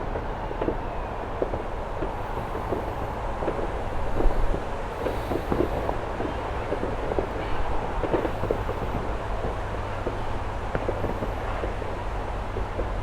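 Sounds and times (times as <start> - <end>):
faint pops and crackles: 1.4 - 13.0.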